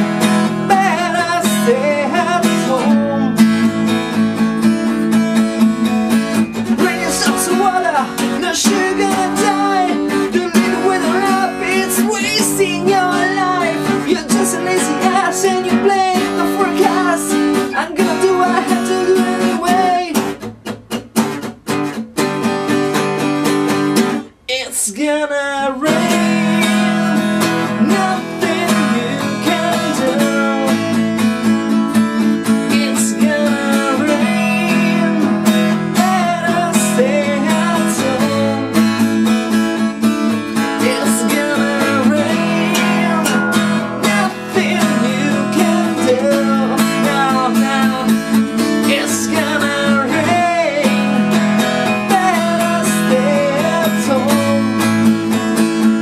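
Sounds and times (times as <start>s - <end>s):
man singing: 0.0s - 20.4s, 24.4s - 56.0s
acoustic guitar strumming: 0.0s - 56.0s.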